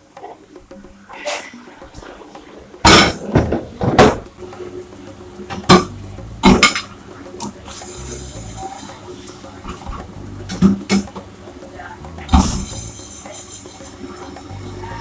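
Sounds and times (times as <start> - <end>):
dishes and cutlery clattering: 0.2 - 4.7, 5.5 - 11.3, 12.3 - 15.0.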